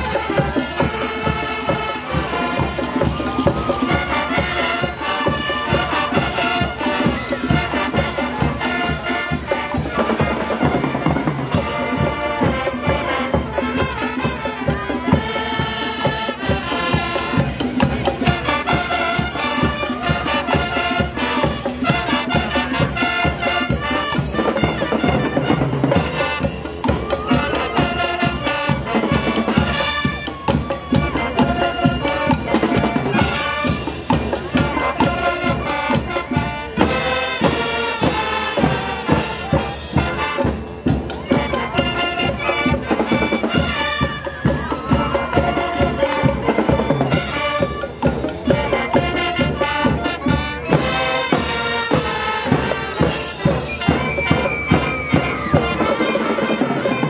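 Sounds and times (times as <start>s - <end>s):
marching band playing: 0.0s - 57.0s.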